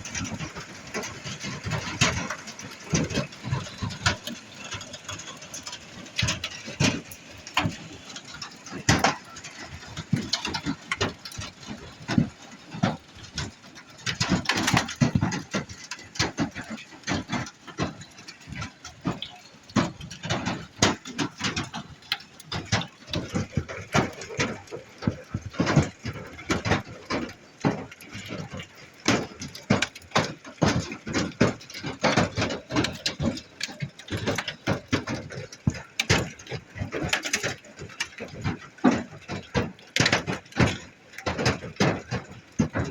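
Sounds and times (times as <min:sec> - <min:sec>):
hail pounding trailer roof: 0:00.0 - 0:42.9.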